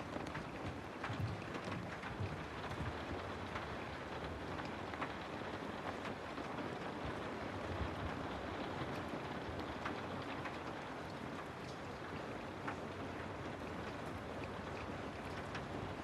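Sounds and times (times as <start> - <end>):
rain falling on a house: 0.0 - 16.0.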